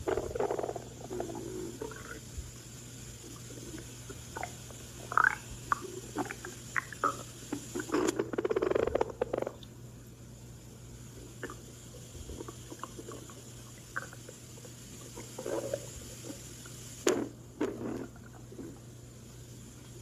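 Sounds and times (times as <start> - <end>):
stomach growling: 0.0 - 2.4, 3.2 - 9.7, 11.2 - 19.0.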